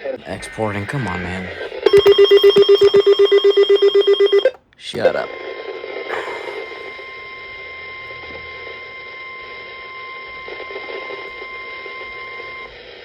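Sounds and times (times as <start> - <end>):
radio hiss: 0.0 - 13.0
steady alarm tone: 0.0 - 13.0.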